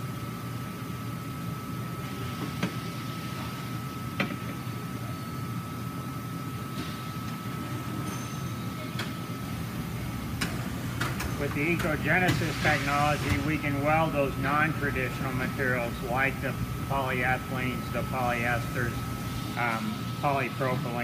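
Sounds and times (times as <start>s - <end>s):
machinery hum: 0.0s - 21.0s.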